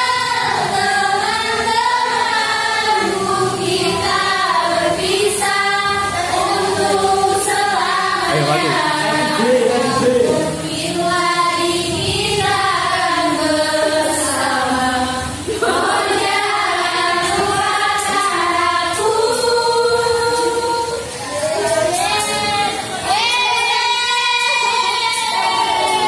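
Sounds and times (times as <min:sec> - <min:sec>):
many voices singing together: 0:00.0 - 0:26.0.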